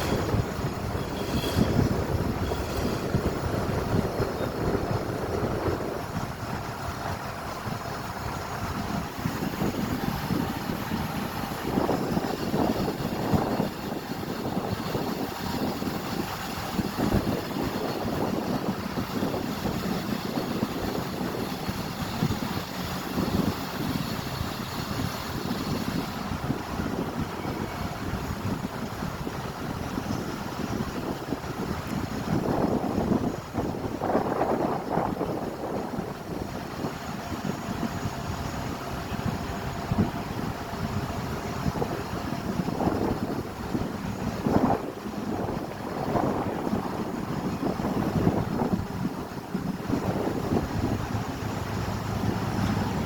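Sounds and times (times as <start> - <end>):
passing vehicles rumble: 0.0 - 53.0.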